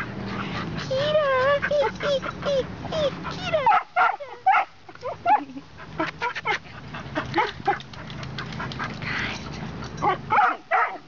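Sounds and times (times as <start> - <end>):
dogs yipping and barking: 0.0 - 9.0, 9.7 - 11.0.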